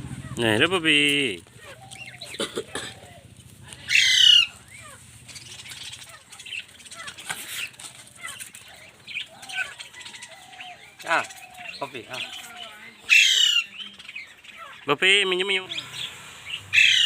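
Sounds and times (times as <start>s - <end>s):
parrots squawking and chirping: 0.0s - 17.0s.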